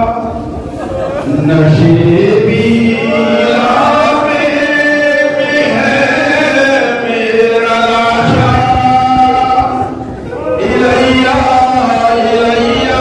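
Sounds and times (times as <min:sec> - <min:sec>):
person chanting a lament: 0:00.0 - 0:13.0.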